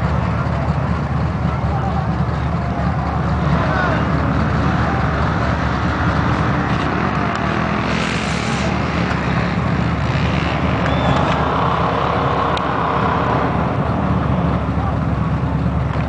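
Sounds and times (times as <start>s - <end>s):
truck engine rumbling: 0.0s - 16.0s.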